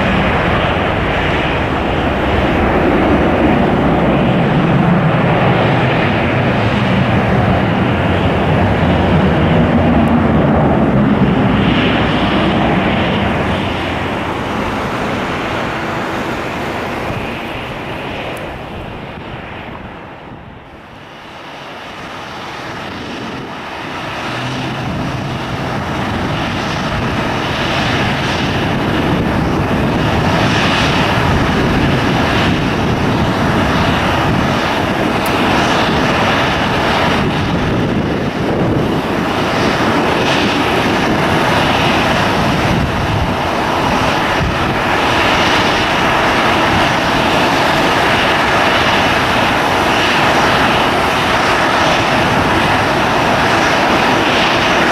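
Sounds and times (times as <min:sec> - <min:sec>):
airliner engines: 0:00.0 - 0:54.9.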